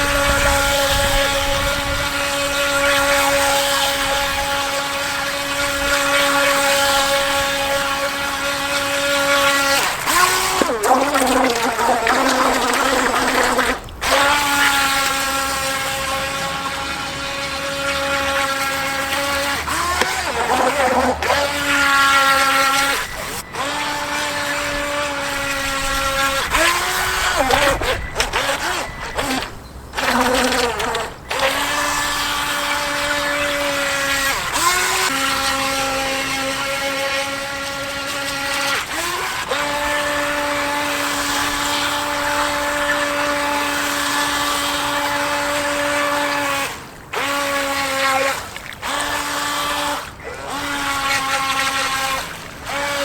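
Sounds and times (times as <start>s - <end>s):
electric motor whining: 0.0s - 53.0s.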